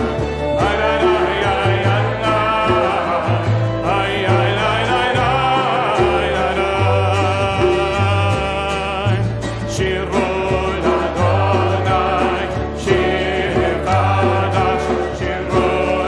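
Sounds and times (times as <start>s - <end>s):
acoustic guitar: 0.0s - 16.0s
congregation singing: 0.0s - 16.0s
double bass: 0.0s - 16.0s
hand drum: 0.0s - 16.0s.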